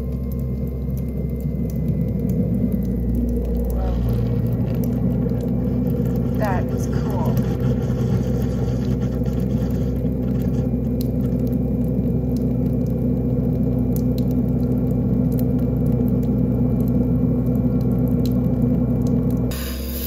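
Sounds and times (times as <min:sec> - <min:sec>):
garbage disposal motor humming: 0:00.0 - 0:20.0.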